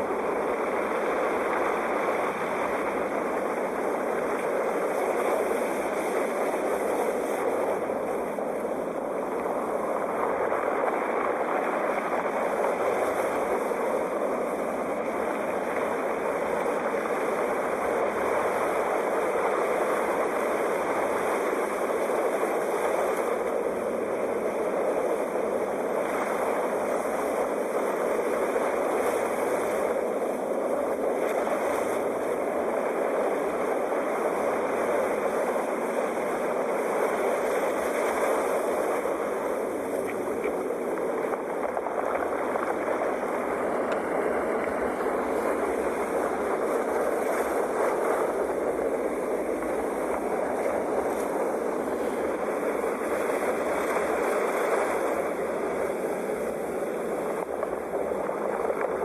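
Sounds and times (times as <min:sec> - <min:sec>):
surf washing: 0:00.0 - 0:59.0.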